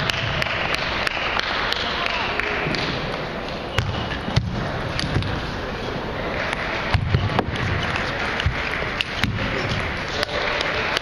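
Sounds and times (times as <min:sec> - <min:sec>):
busy hall background noise: 0:00.0 - 0:11.0.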